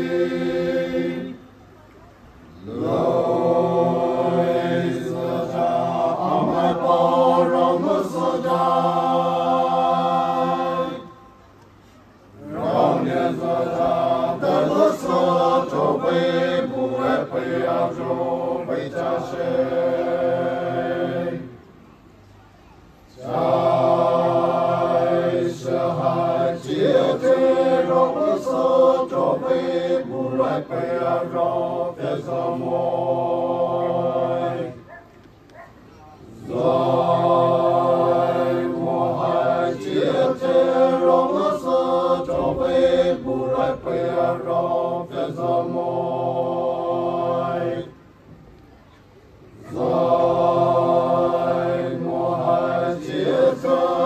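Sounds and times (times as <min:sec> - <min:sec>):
group of voices chanting: 0:02.6 - 0:11.2, 0:12.4 - 0:21.6, 0:23.2 - 0:34.9, 0:36.2 - 0:48.0, 0:49.5 - 0:54.0.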